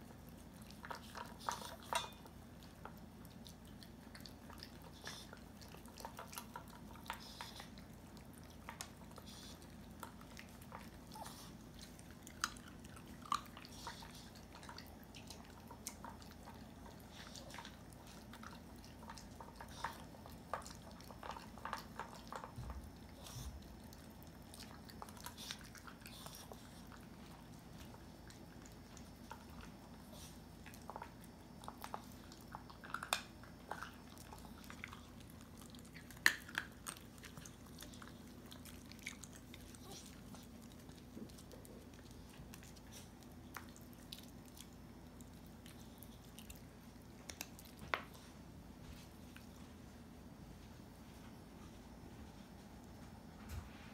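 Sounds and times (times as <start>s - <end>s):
dogs crunching kibble: 0.0s - 48.2s.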